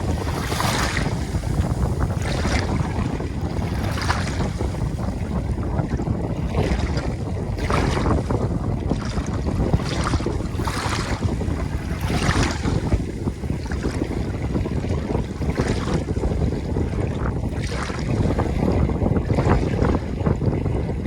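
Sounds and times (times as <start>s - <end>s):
ocean waves breaking on shore: 0.0s - 20.7s
steady low rumble: 0.0s - 21.0s.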